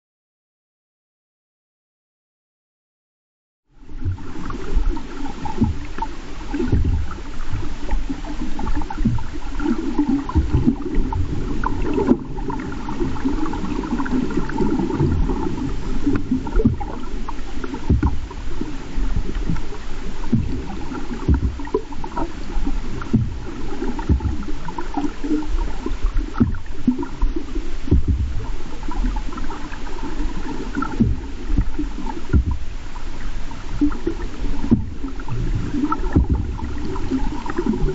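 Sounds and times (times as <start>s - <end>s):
underwater water wash: 3.7s - 37.9s
low underwater knocks: 4.0s - 37.9s.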